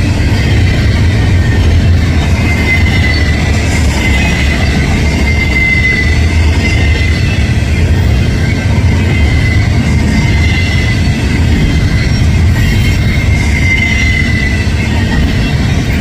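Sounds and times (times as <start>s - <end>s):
freight train wheels rumbling: 0.0s - 16.0s
high wheel squeal: 0.0s - 16.0s.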